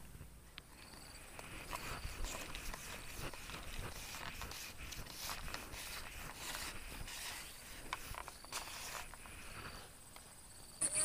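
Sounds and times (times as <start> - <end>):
faint high insect drone: 0.0 - 11.0.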